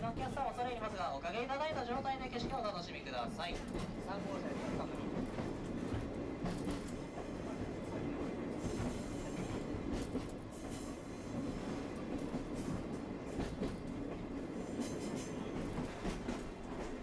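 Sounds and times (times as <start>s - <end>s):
train running along track: 0.0s - 17.0s
wheels clicking and squealing on rails: 3.3s - 17.0s.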